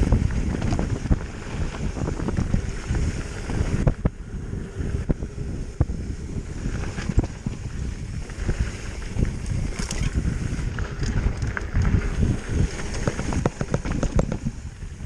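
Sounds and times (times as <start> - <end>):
bike rattling clicks and knocks: 0.0 - 4.2, 6.6 - 15.0
tyres on dirt trail: 0.0 - 15.0
wind buffeting microphone: 0.0 - 15.0.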